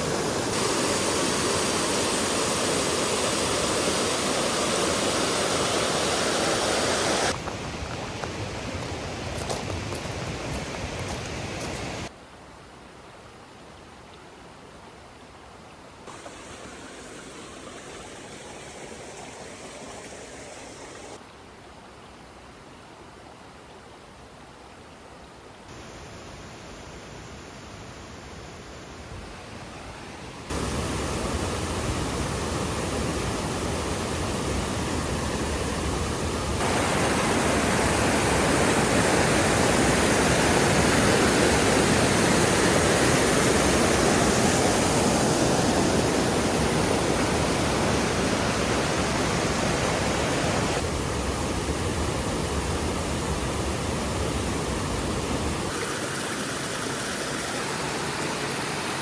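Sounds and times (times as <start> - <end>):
rushing water: 0.0 - 12.2, 16.0 - 24.4, 29.3 - 59.0.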